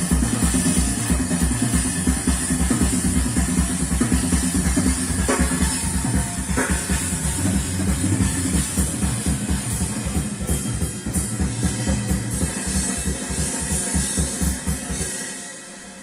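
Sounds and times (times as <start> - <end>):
drum and bass music: 0.0 - 16.0.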